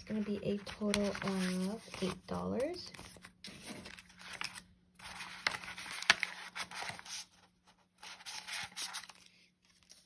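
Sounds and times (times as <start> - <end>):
paper banknotes rustling: 0.0 - 10.0.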